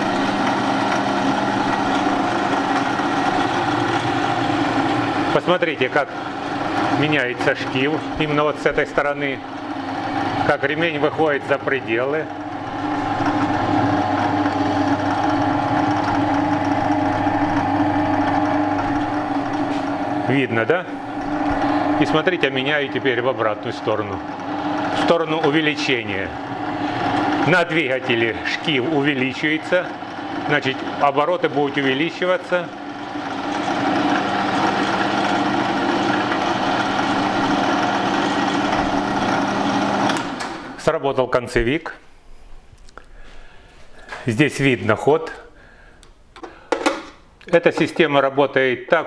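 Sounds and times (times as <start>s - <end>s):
belt and pulleys whirring: 0.0s - 40.8s
drill press motor humming: 0.0s - 40.8s.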